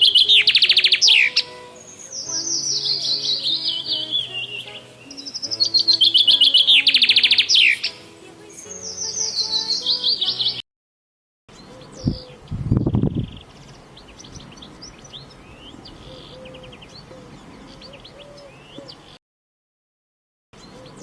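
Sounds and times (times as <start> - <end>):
birds chirping: 0.0 - 10.6, 11.5 - 19.2, 20.6 - 21.0.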